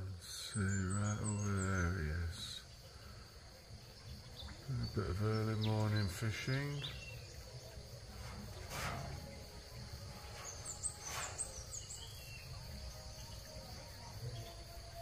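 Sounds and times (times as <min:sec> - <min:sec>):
bird chirps: 0:00.0 - 0:14.7
insects droning: 0:00.0 - 0:15.0.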